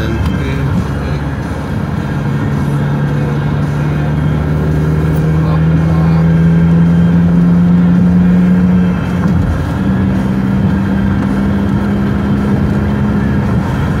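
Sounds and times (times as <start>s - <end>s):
car engine and road hum: 0.0s - 14.0s.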